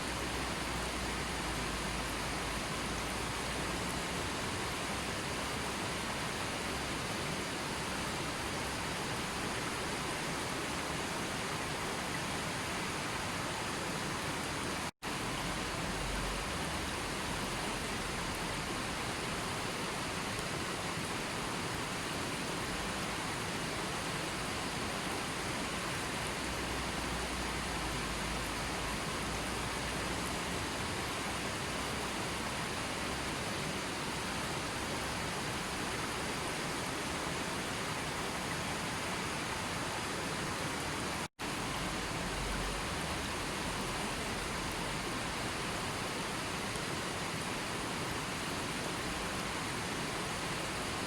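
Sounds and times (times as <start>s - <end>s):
rushing water hiss: 0.0s - 51.0s.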